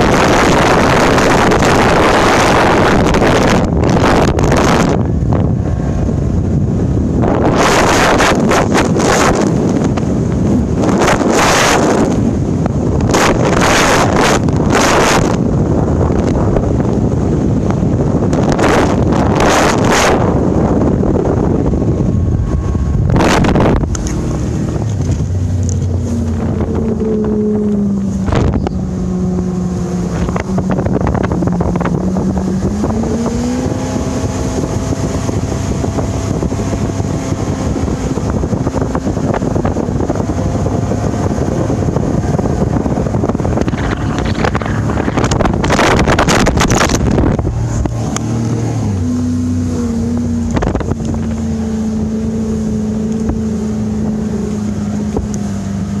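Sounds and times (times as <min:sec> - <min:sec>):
outboard motor running: 0:00.0 - 0:56.0
wind buffeting microphone: 0:00.0 - 0:56.0.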